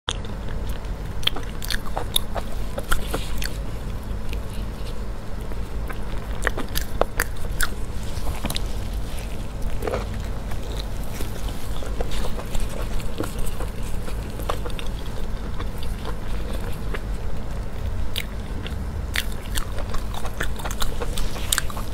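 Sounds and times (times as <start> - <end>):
steady low rumble: 0.1 - 21.9
wet chewing and mouth smacks: 0.1 - 21.9.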